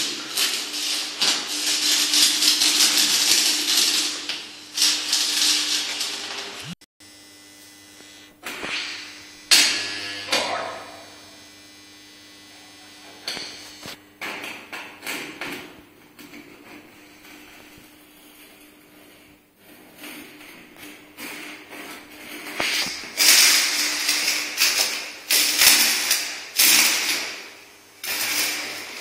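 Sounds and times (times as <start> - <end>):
welding arc crackling and sizzling: 0.0 - 29.0.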